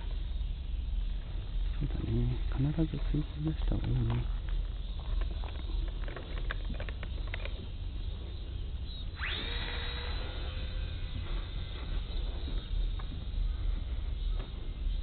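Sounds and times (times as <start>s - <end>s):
wind rumble on microphone: 0.0s - 15.0s
small electric motors whining: 2.7s - 15.0s.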